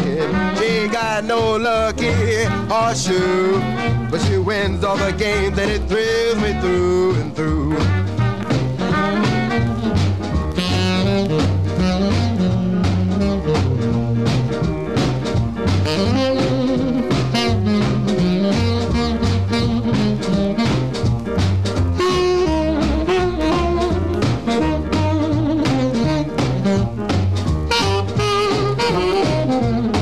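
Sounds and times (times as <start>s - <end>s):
horns playing melody: 0.0s - 14.4s, 15.3s - 21.2s, 21.9s - 30.0s
steady drum beat: 0.0s - 30.0s
stepping bass line: 0.0s - 30.0s
up-tempo swing music: 0.0s - 30.0s.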